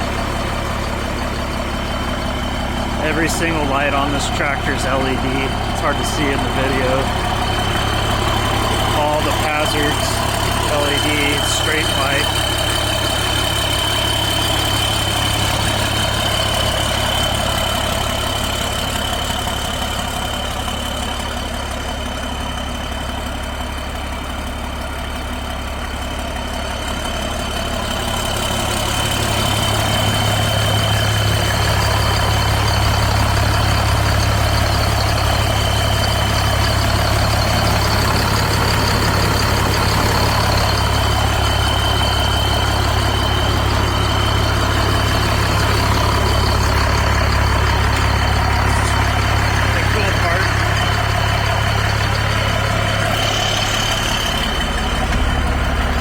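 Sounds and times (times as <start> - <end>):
diesel tractor engine idling: 0.0 - 56.0.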